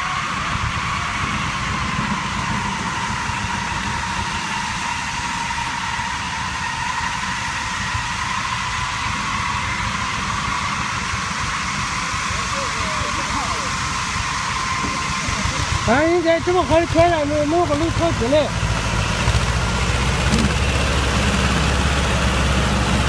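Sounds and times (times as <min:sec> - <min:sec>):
high whine: 0:00.0 - 0:23.0
tractor engine running: 0:00.0 - 0:23.0.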